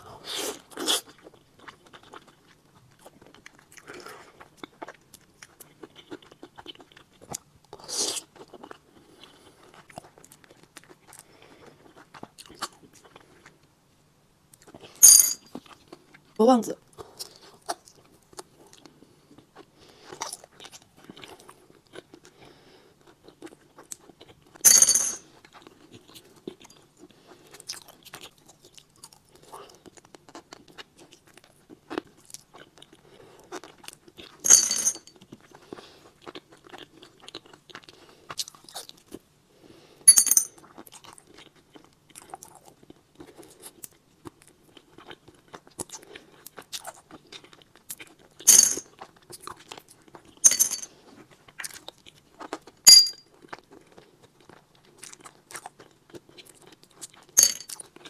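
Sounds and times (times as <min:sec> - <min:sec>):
chewing: 0:00.2 - 0:13.7, 0:17.0 - 0:24.6, 0:25.2 - 0:34.4, 0:35.1 - 0:39.2, 0:40.5 - 0:58.0.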